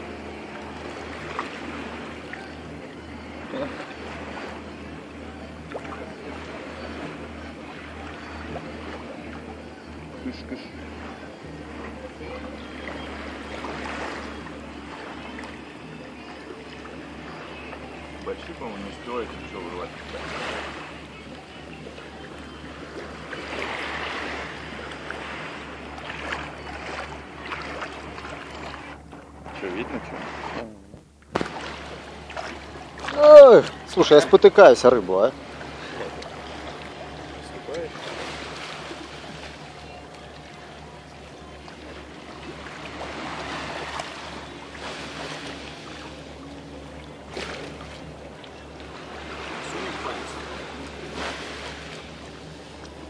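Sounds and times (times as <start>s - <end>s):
seawater lapping at shore: 0.0s - 53.0s
small water splashes: 0.0s - 53.0s.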